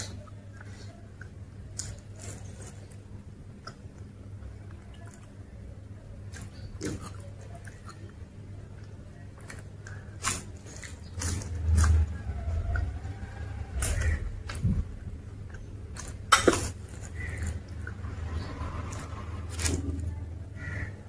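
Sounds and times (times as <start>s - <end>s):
person chewing food: 0.0s - 5.4s, 6.1s - 20.2s.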